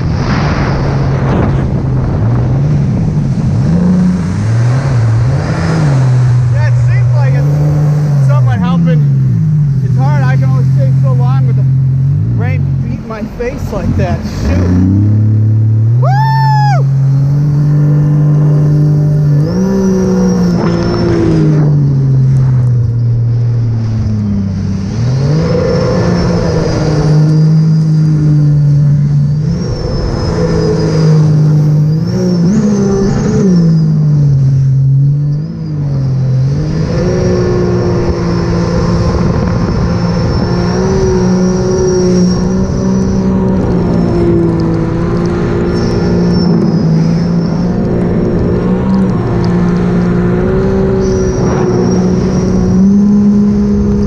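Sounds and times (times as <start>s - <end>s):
high engine whine: 0.0s - 54.0s
jet ski engine running hard: 0.0s - 54.0s
rushing wind: 0.0s - 54.0s.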